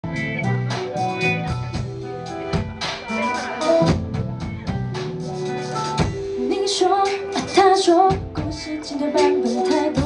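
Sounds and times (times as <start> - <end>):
drum kit beat: 0.0 - 10.0
guitar and keyboard chords: 0.0 - 10.0.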